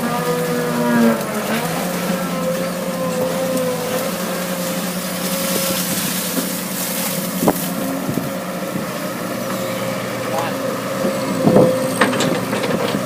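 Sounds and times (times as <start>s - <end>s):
digging machine engine running: 0.0s - 13.0s.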